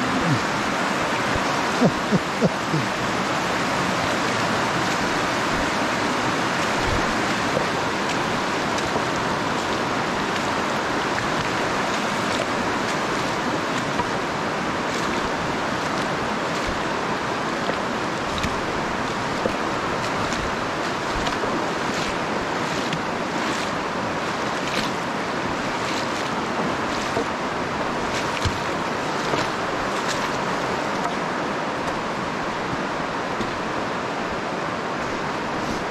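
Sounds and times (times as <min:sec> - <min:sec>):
river water rushing over rocks: 0:00.0 - 0:35.9.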